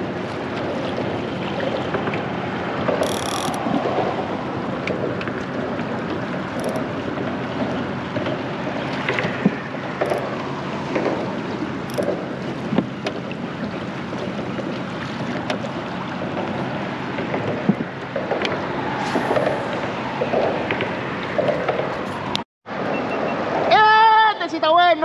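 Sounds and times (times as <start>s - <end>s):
water lapping around boat: 0.0s - 22.4s
wind rumbling on microphone: 0.0s - 22.4s.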